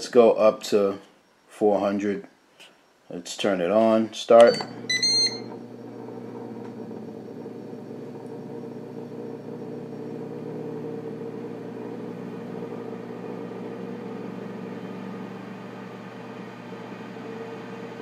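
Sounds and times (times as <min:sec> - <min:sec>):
cooker fan humming: 0:03.4 - 0:18.0.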